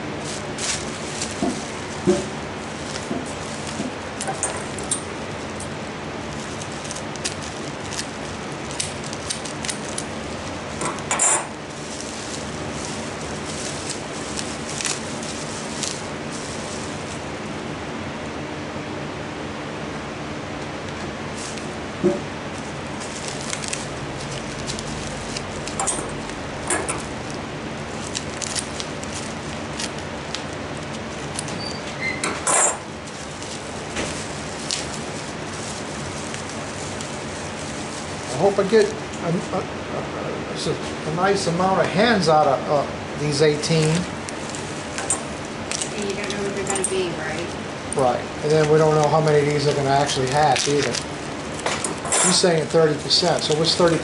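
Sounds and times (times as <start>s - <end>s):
bubble wrap rustling: 0.0s - 17.7s, 20.8s - 39.6s, 43.2s - 54.0s.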